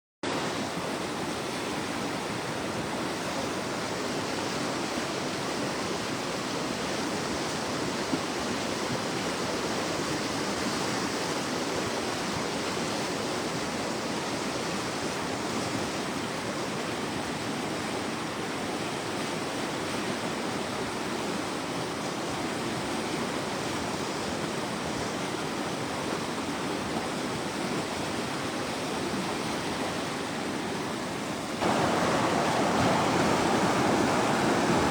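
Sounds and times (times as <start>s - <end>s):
turbulent river water rushing: 0.2s - 34.9s.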